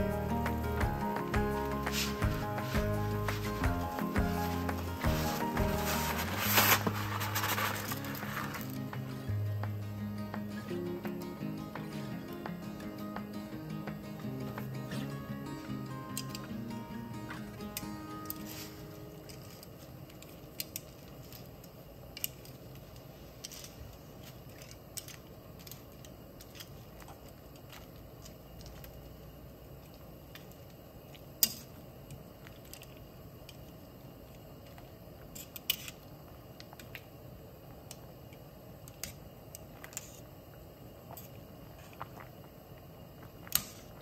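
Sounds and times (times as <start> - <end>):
water boiling: 0.0 - 10.4, 11.4 - 44.0.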